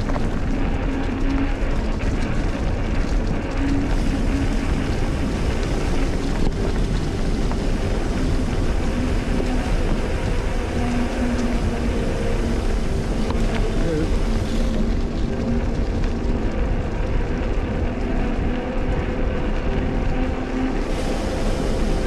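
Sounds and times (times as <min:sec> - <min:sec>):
bicycle tyres rolling on gravel: 0:00.0 - 0:22.0
wind rush on microphone: 0:00.0 - 0:22.0.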